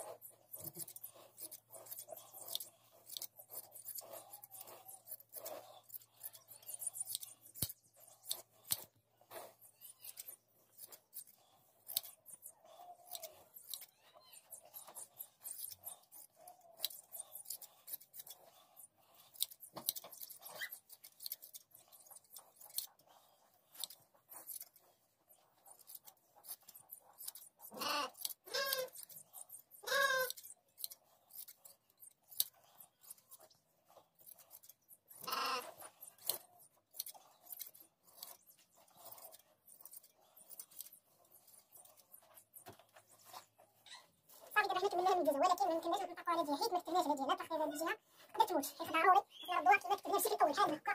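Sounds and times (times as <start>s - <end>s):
shears snipping fleece: 0.0s - 50.9s.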